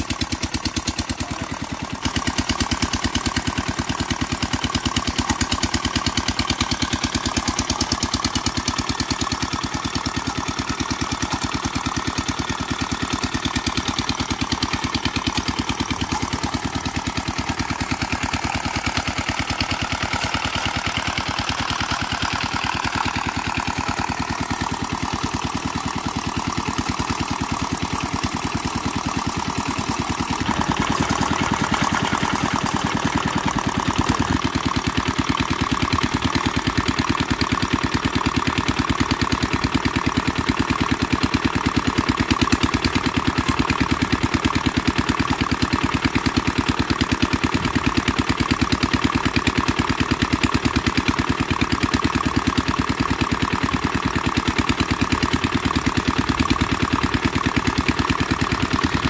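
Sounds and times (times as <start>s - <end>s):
small engine driving winch: 0.0s - 59.0s.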